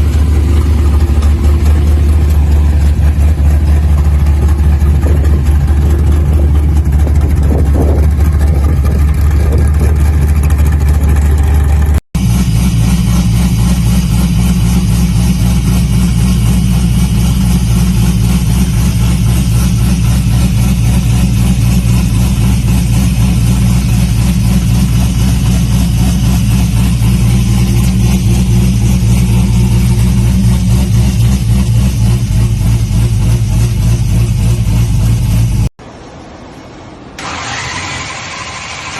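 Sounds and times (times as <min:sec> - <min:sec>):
muscle car engine idling: 0:00.0 - 0:38.9.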